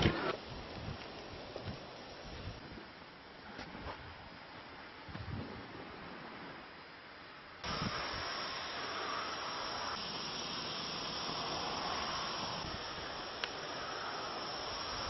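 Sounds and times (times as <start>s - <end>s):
steady hiss-like noise: 0.0s - 15.0s.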